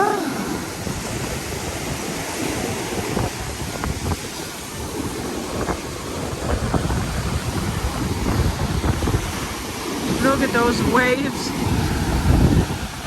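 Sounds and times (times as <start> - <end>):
waves washing onto stony shore: 0.0 - 13.0
wind buffeting microphone: 0.0 - 13.0.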